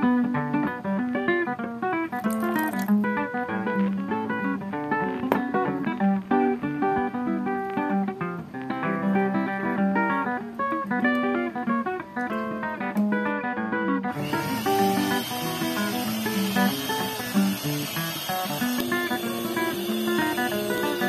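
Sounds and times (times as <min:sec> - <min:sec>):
plucked acoustic guitar melody: 0:00.0 - 0:21.0.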